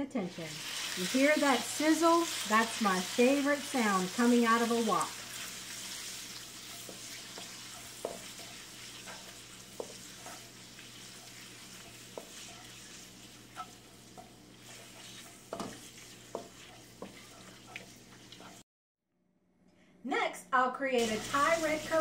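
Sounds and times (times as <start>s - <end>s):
food sizzling in wok: 0.2s - 18.6s, 21.0s - 22.0s
spatula scraping wok: 0.5s - 18.6s.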